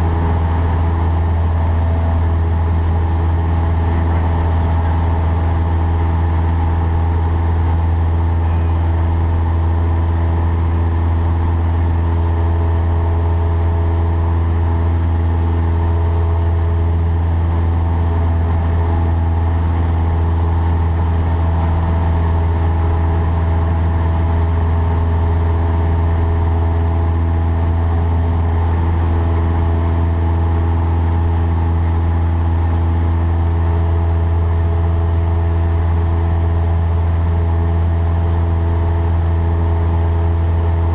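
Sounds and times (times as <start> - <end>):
airplane engine and propeller drone: 0.0 - 40.9.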